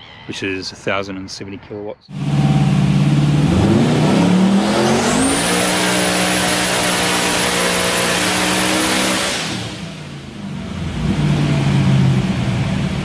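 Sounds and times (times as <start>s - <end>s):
car engine at full power: 2.1s - 13.0s
high turbo whine: 2.1s - 13.0s.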